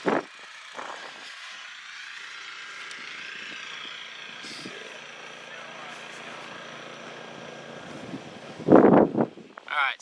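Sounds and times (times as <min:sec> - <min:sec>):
distant engine humming: 0:00.0 - 0:09.7
outdoor background noise: 0:00.0 - 0:10.0.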